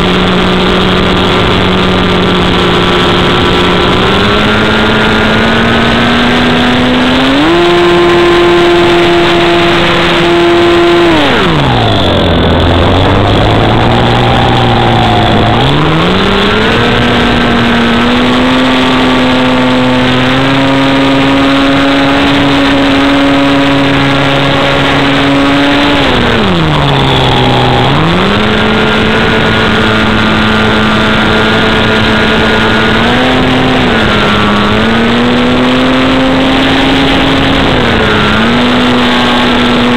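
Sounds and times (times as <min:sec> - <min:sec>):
model plane motor running: 0:00.0 - 0:39.9
rushing noise: 0:00.0 - 0:39.9.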